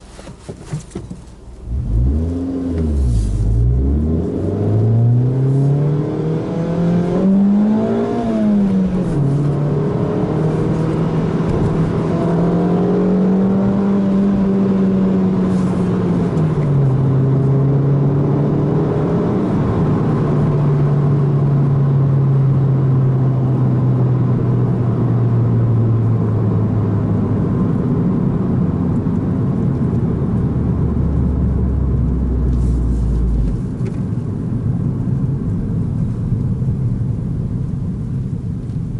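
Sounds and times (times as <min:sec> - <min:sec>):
car engine revving: 0:00.8 - 0:34.1.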